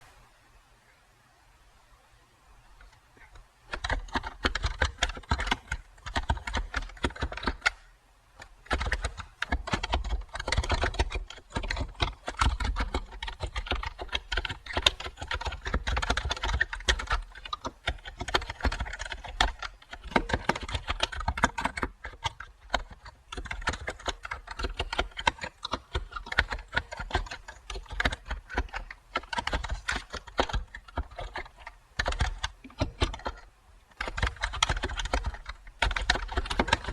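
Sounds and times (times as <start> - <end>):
computer keyboard typing: 2.8 - 36.9.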